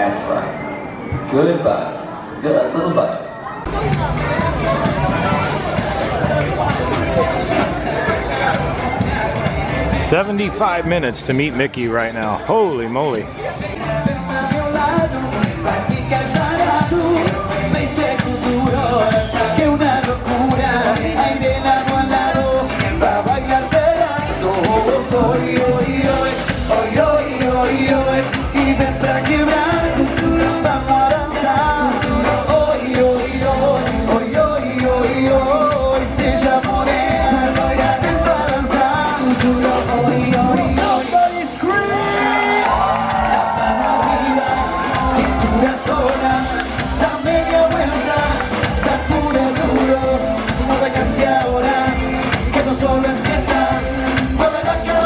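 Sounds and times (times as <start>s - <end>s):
upbeat music with singing: 0.0s - 55.0s.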